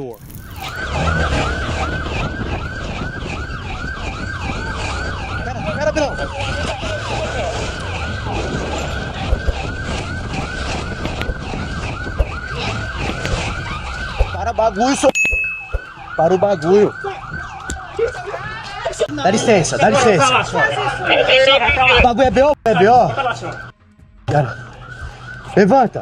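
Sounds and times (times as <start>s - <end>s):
police siren yelping: 0.3s - 22.2s, 23.0s - 26.0s.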